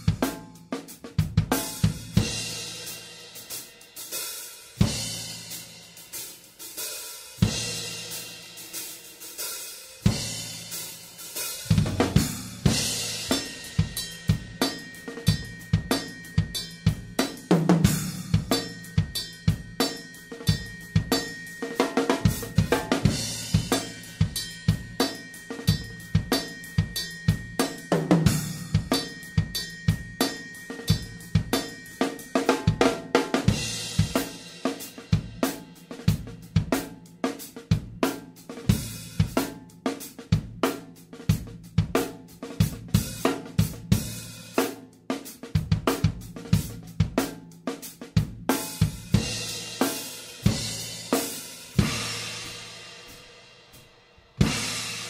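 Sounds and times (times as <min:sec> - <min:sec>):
drum kit beat: 0:00.0 - 0:55.0.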